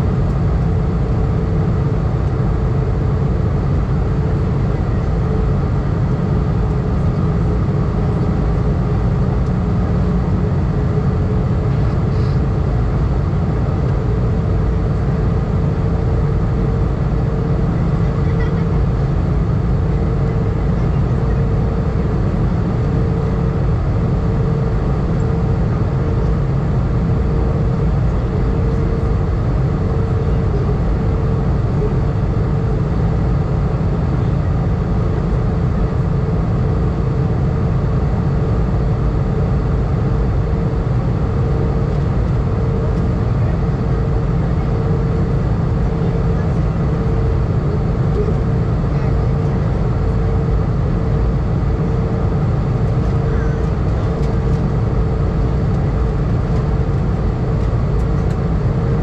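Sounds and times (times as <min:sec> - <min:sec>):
engine and airflow rumble: 0:00.0 - 0:59.0
steady humming tone: 0:00.0 - 0:59.0.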